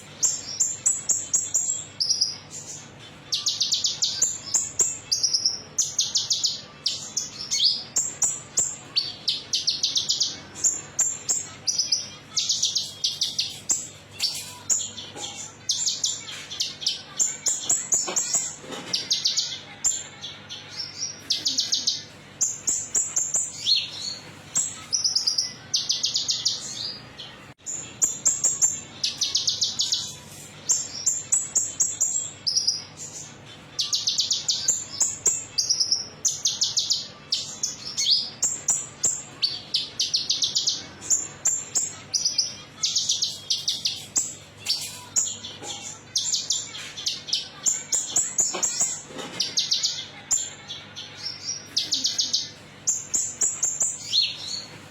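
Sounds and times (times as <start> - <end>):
bird trills and chirps: 0.0 - 54.9.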